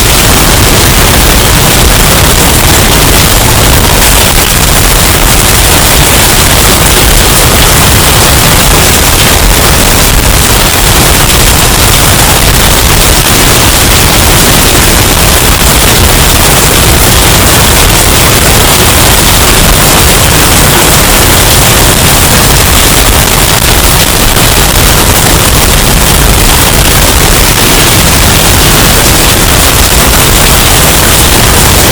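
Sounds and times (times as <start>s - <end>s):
distorted storm wind: 0.0s - 31.9s.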